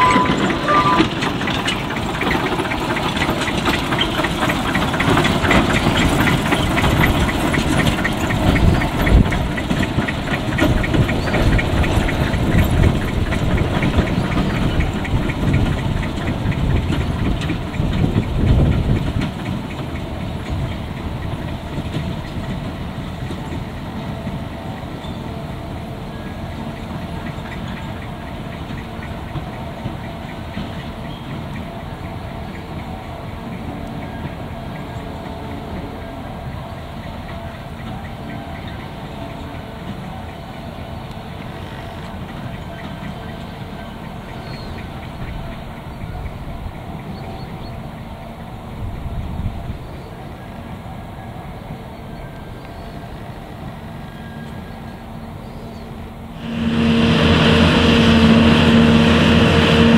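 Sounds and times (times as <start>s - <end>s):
train wheels clattering: 0.0s - 48.2s, 56.4s - 59.9s
diesel locomotive engine running: 0.0s - 59.9s.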